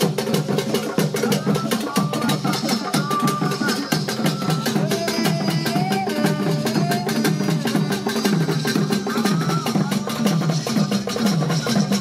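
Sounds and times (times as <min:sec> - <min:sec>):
rapid percussion strikes: 0:00.0 - 0:12.0.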